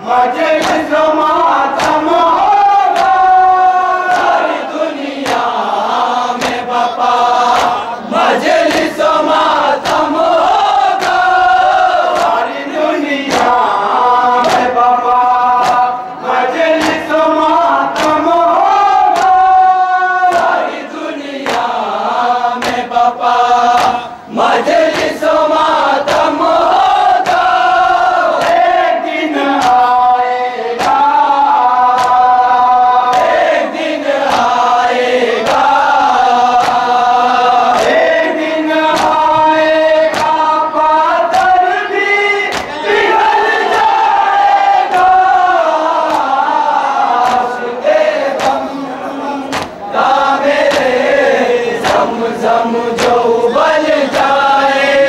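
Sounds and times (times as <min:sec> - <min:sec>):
group chanting in unison: 0:00.0 - 0:55.0.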